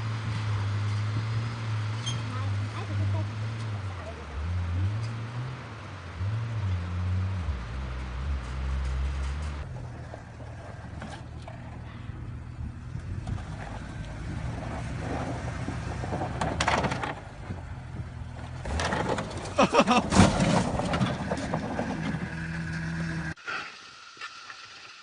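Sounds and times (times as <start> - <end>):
vehicle engine rumbling: 0.0 - 23.4.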